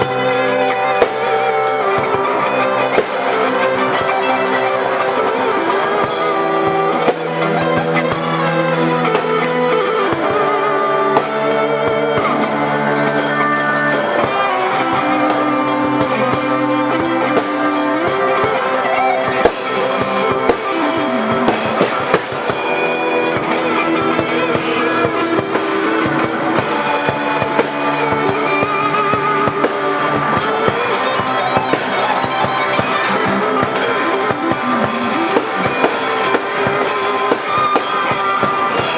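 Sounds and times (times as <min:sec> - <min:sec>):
guitars and drum kit music: 0:00.0 - 0:38.9.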